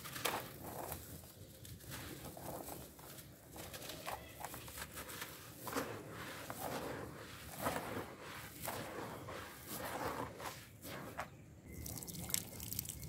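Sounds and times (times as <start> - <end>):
dirt grains trickling: 0.0 - 13.0
dry dirt crunching in hands: 0.0 - 13.0.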